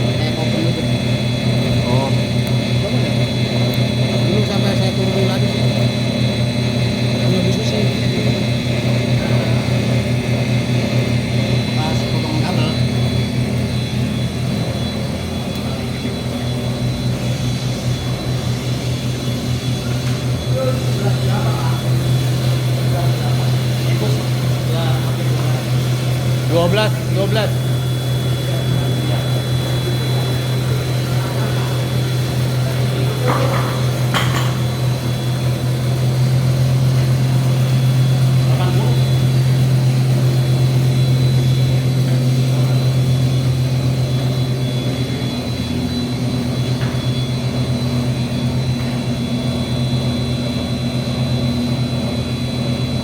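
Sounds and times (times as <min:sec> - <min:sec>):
low machine hum: 0:00.0 - 0:53.0.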